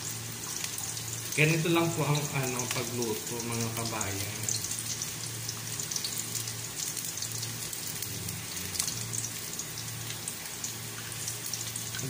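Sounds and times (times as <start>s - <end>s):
garlic and onion frying in oil: 0.0s - 12.0s.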